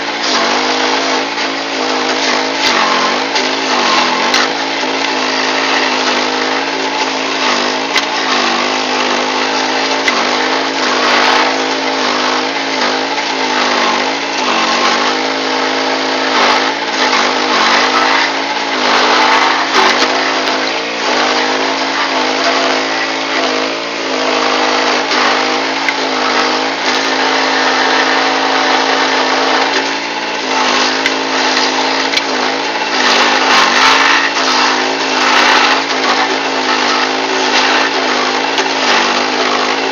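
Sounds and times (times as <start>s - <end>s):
rough grinding noise: 0.0s - 39.9s
stump grinder engine running: 0.0s - 39.9s.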